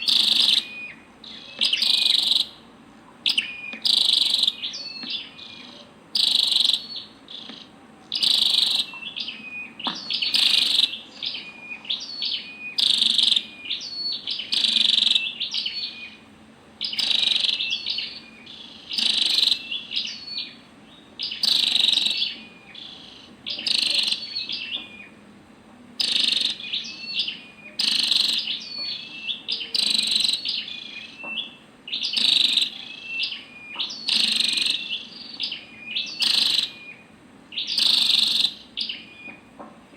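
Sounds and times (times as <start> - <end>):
bird sharp high chirping: 0.0 - 2.6, 3.3 - 16.2, 16.8 - 20.6, 21.2 - 25.1, 26.0 - 39.5.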